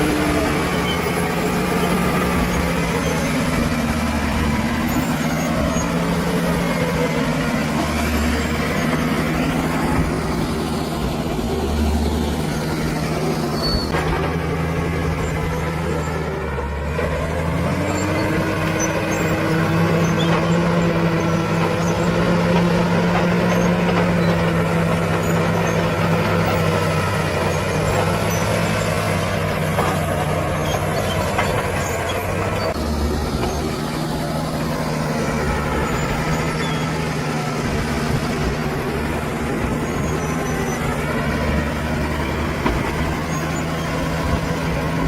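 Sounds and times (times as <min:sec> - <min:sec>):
bulldozer diesel engine: 0:00.0 - 0:45.0.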